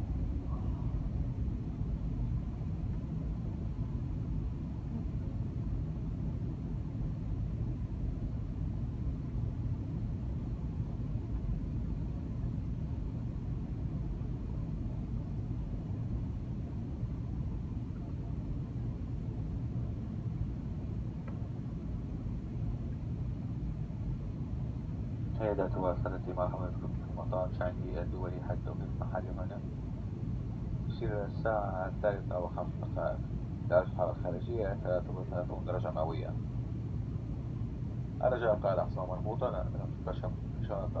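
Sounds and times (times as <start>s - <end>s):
airliner cabin rumble: 0.0s - 41.0s.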